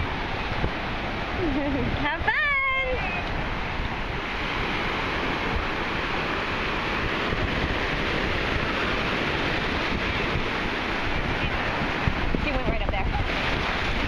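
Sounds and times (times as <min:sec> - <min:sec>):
sea water rushing: 0:00.0 - 0:14.0
wind buffeting the microphone: 0:00.0 - 0:14.0.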